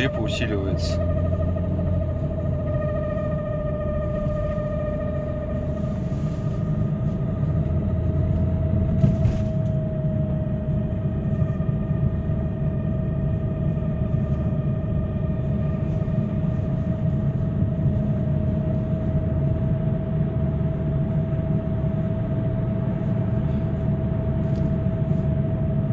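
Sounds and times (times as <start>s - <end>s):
road and engine rumble: 0.0s - 25.9s.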